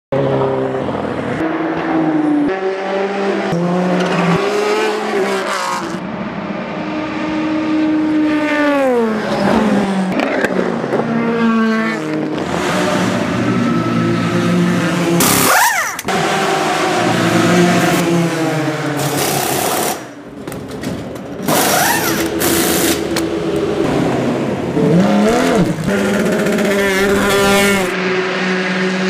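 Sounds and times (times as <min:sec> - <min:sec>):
race car engines at high revs: 0:00.2 - 0:20.3, 0:21.4 - 0:29.0.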